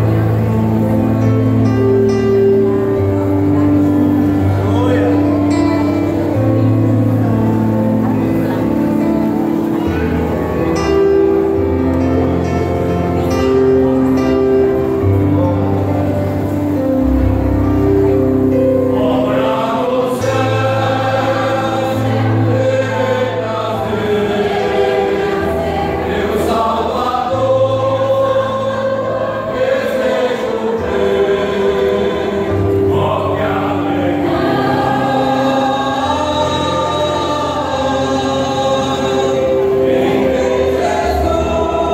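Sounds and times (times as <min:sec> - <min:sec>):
choir singing in harmony: 0:00.0 - 0:41.9.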